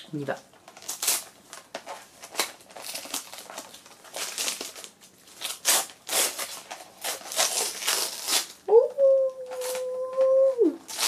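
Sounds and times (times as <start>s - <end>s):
wrapping paper rustling and crinkling: 0.5s - 8.7s, 9.3s - 11.0s.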